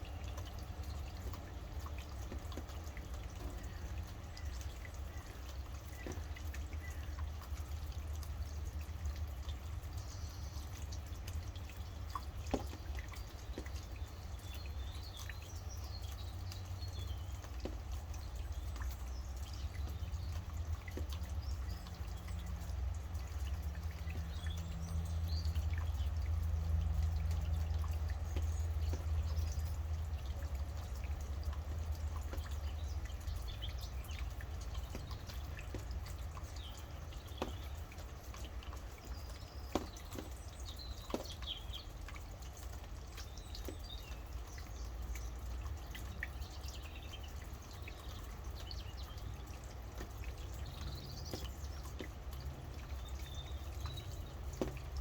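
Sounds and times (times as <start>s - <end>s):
birds chirping: 0.0s - 55.0s
rain falling: 0.0s - 55.0s
water drips: 0.0s - 55.0s.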